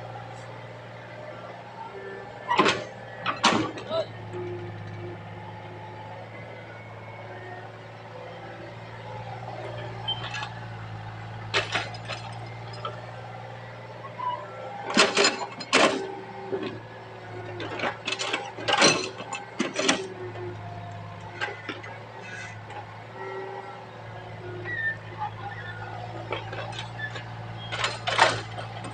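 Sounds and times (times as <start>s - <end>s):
excavator engine humming: 0.0s - 28.9s.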